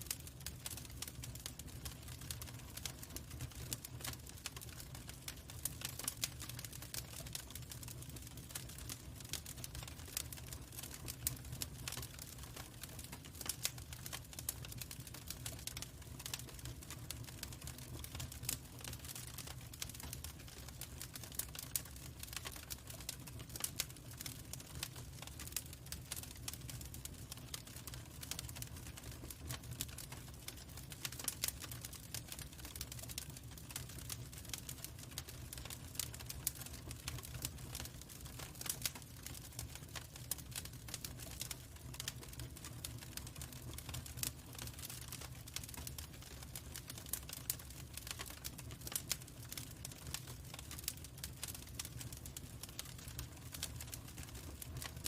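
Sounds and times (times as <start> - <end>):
fire popping and snapping: 0.0 - 55.0
log fire crackling: 0.0 - 55.0.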